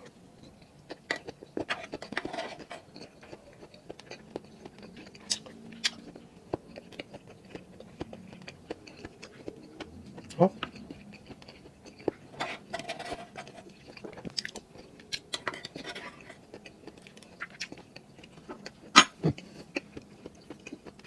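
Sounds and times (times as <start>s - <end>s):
man chewing food: 0.0s - 21.0s.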